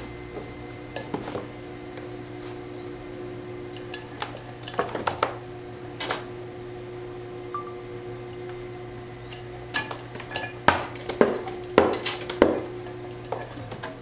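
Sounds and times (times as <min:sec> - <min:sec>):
potter's wheel hum: 0:00.0 - 0:14.0.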